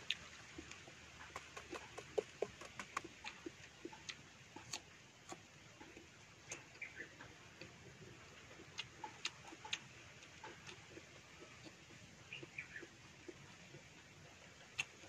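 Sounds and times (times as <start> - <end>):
mouth clicks and smacks chewing: 0.0 - 15.0.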